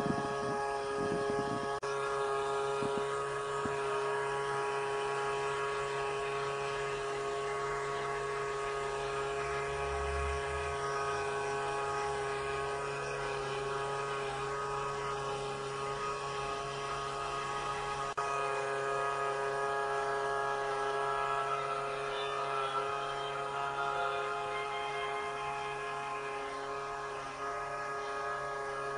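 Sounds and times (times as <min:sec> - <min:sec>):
steady hum of held tones: 0:00.0 - 0:28.9.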